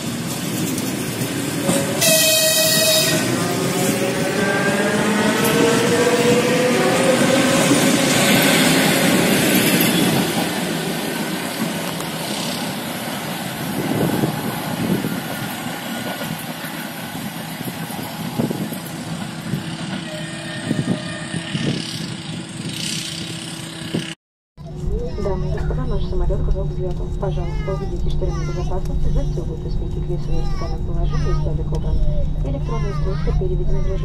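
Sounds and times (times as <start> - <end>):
train wheels rumbling and rattling: 0.0 - 24.1, 24.7 - 34.0.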